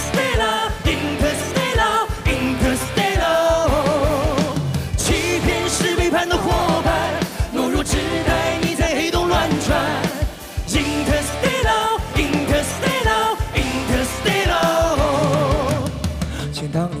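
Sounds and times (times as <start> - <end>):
band playing: 0.0 - 16.4
steady drum beat: 0.0 - 16.6
man singing into microphone: 0.9 - 17.0.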